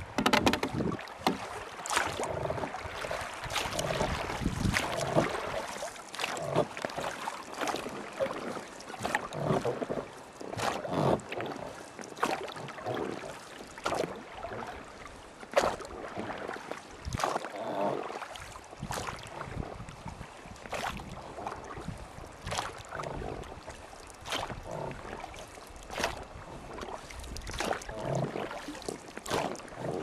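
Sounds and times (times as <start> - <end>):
water splashing with knocks: 0.0 - 30.0.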